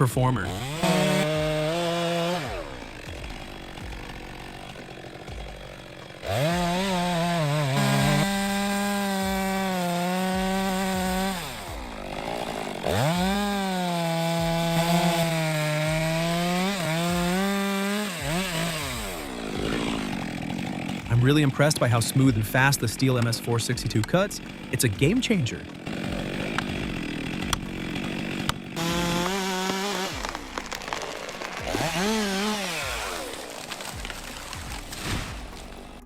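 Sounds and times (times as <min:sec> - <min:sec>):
chainsaw cutting logs: 0:00.0 - 0:36.0.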